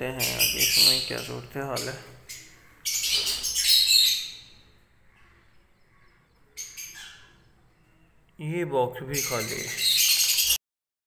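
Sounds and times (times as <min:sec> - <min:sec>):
lovebirds squawking: 0:00.0 - 0:08.3, 0:09.0 - 0:10.6.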